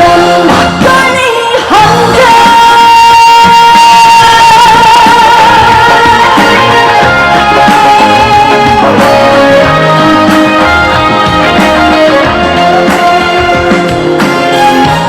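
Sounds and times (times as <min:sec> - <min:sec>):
band music through pa: 0:00.0 - 0:15.0.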